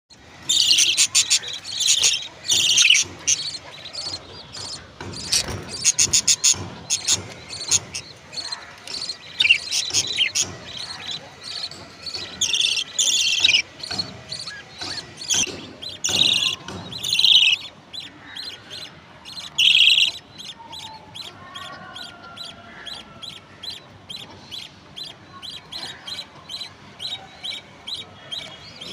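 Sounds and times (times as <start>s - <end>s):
baby birds chirping: 0.1s - 28.9s.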